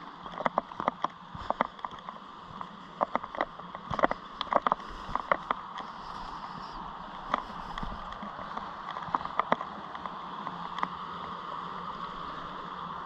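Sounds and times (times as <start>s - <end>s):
flowing creek water: 0.0s - 13.0s.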